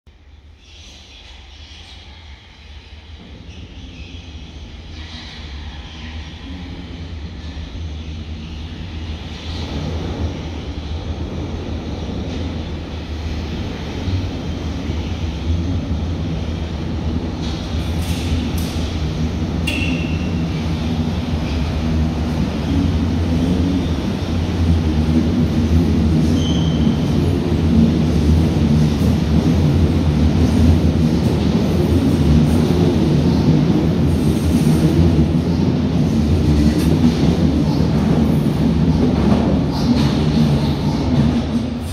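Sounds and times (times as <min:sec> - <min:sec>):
subway train rumbling in tunnel: 0:00.1 - 0:41.9.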